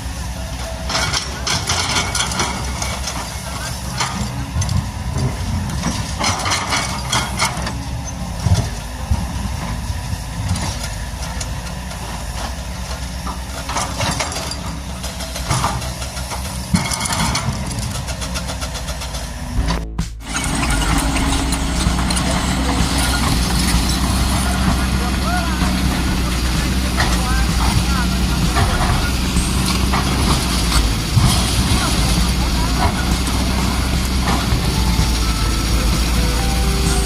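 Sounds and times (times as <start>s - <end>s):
diesel engine running: 0.0s - 37.0s
clatter and hiss: 0.9s - 37.0s.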